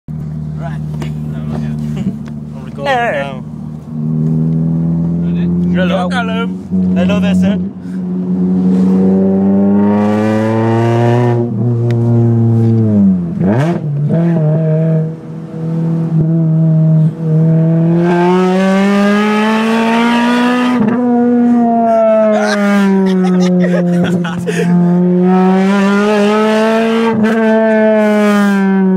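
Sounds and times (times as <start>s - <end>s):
supercharged car engine revving: 0.1s - 28.9s.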